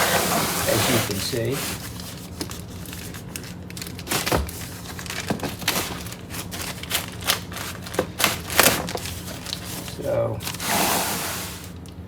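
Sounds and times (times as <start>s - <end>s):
packaging clicking and crinkling: 0.0s - 12.0s.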